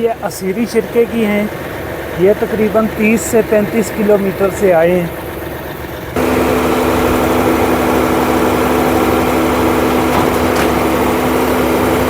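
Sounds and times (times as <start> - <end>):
heavy vehicle engine humming: 0.0 - 12.0.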